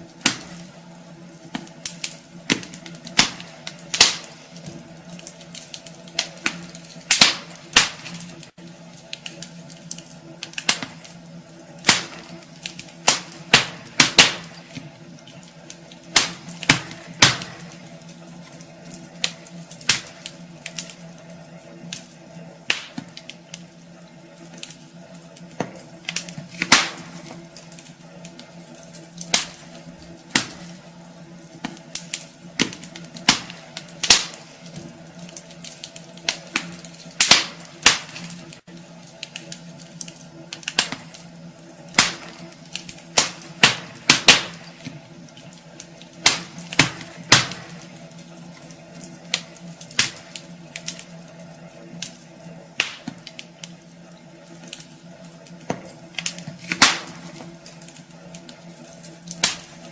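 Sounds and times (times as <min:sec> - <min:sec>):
steady low hum: 0:00.0 - 0:59.9
wood fire crackling and popping: 0:00.0 - 0:59.9.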